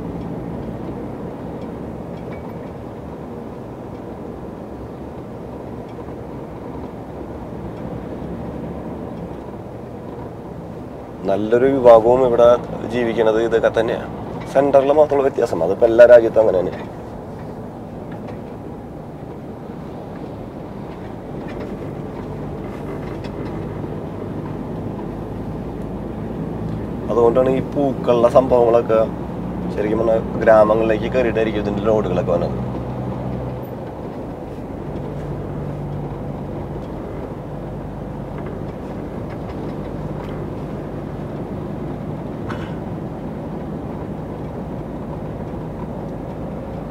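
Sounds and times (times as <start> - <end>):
truck engine running: 0.0 - 46.9
tyres rumbling on road: 0.0 - 46.9.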